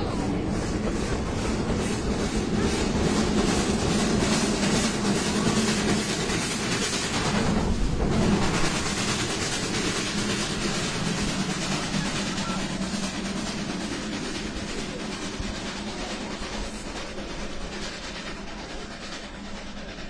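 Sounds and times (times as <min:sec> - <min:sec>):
steam train rumbling: 0:00.0 - 0:20.0
wheels clattering on rail: 0:00.0 - 0:20.0.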